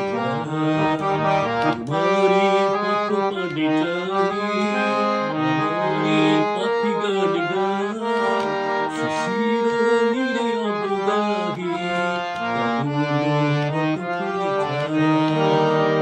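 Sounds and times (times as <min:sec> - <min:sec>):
harmonium melody: 0:00.0 - 0:16.0.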